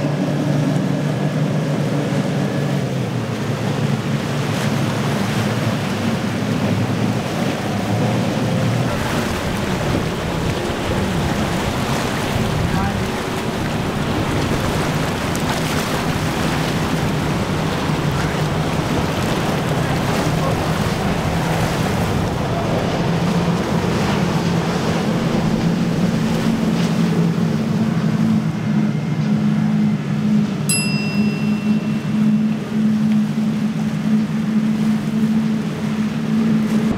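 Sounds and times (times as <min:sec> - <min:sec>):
water rushing off hulls: 0:00.0 - 0:29.1, 0:29.9 - 0:36.9
outboard engines droning: 0:00.0 - 0:36.9.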